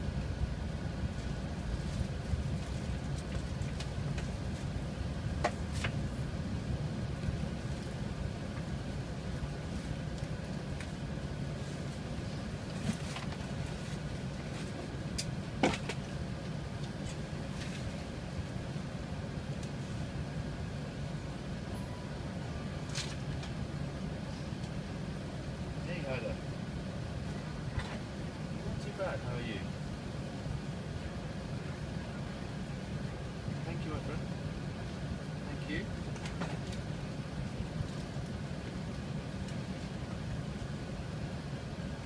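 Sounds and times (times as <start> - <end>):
aircraft cabin rumble: 0.0 - 42.0.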